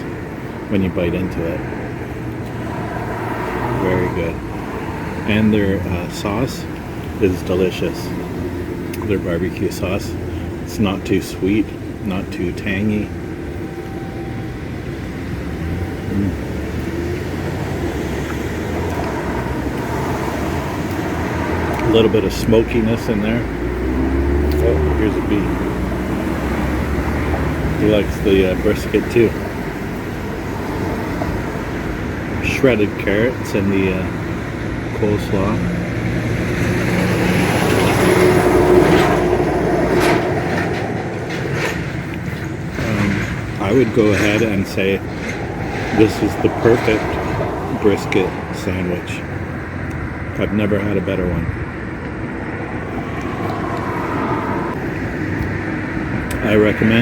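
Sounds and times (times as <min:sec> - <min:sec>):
vehicle passing by: 0:00.0 - 0:10.7, 0:14.1 - 0:57.0
road traffic rumble: 0:00.0 - 0:57.0.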